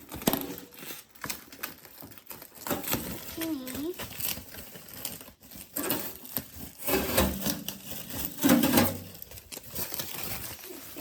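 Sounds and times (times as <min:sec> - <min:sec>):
packing material rustling: 0:00.0 - 0:11.0.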